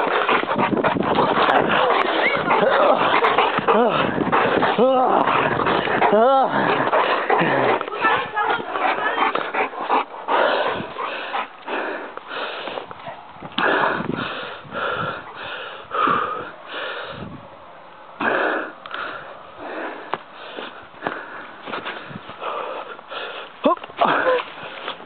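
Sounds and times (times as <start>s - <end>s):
heavy wheezy breathing: 0.0s - 12.9s, 13.6s - 17.4s, 18.2s - 25.0s.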